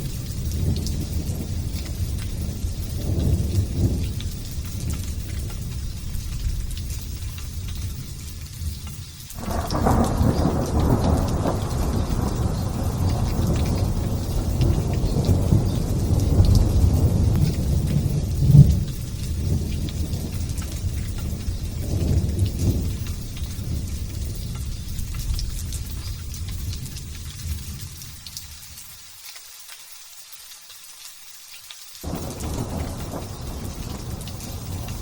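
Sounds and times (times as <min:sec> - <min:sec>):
thunder rumbling: 0:00.0 - 0:08.8, 0:09.4 - 0:27.9, 0:32.0 - 0:35.0
light rain hiss: 0:00.0 - 0:35.0.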